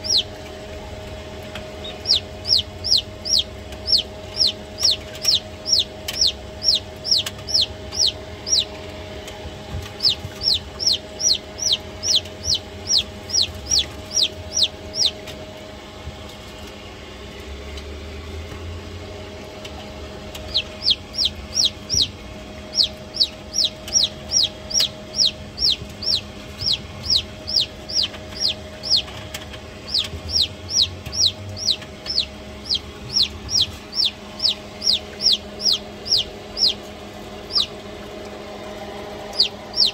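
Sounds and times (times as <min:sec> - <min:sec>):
chick peeping: 0:00.0 - 0:15.4, 0:19.6 - 0:39.9
faint steady hum: 0:00.0 - 0:39.9.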